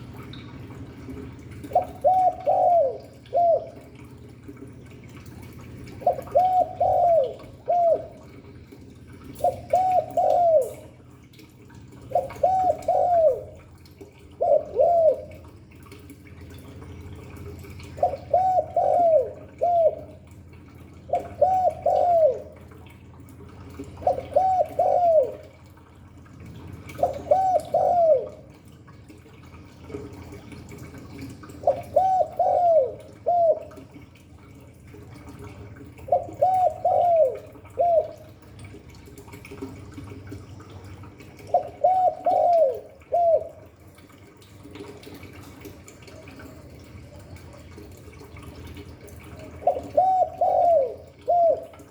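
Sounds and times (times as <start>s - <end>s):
low steady hum: 0.0s - 51.9s
dove cooing: 1.2s - 4.4s, 5.6s - 11.2s, 11.9s - 15.9s, 16.7s - 22.8s, 23.7s - 25.8s, 26.9s - 28.8s, 29.9s - 34.2s, 35.2s - 38.6s, 40.0s - 44.0s, 44.8s - 51.9s.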